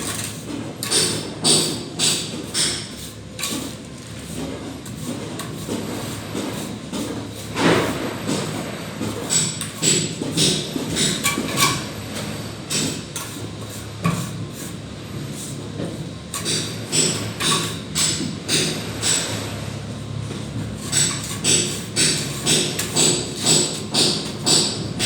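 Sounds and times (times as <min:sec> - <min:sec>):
hand tool scraping and knocking: 0:00.0 - 0:11.9, 0:12.7 - 0:19.2, 0:20.2 - 0:25.0.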